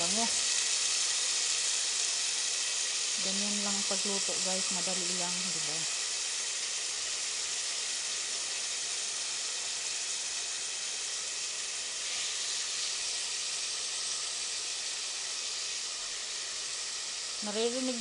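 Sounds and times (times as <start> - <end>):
beef sizzling in hot oil: 0.0 - 18.0.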